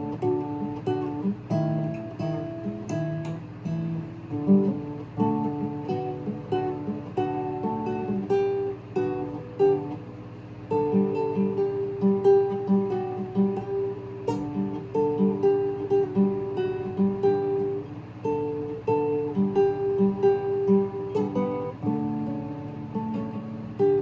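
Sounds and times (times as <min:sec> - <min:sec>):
acoustic guitar melody: 0:00.0 - 0:24.0.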